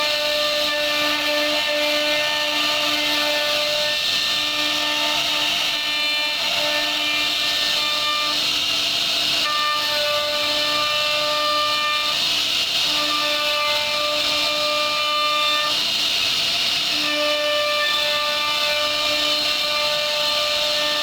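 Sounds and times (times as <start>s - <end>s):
bit cutting wood hiss: 0.0s - 21.0s
router spindle whining: 0.0s - 21.0s.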